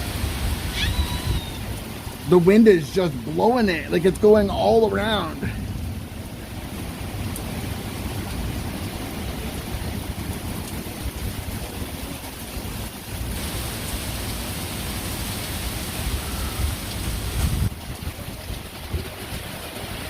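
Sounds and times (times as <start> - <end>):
wind rumbling on microphone: 0.0 - 2.6, 5.4 - 20.0
heavy rain pouring: 0.0 - 20.0.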